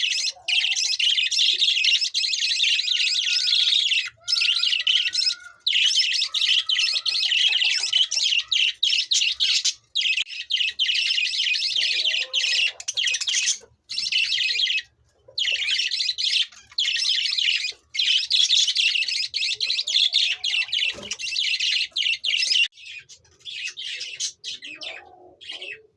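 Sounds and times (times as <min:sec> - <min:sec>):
budgerigars chirping and warbling: 0:00.0 - 0:25.9.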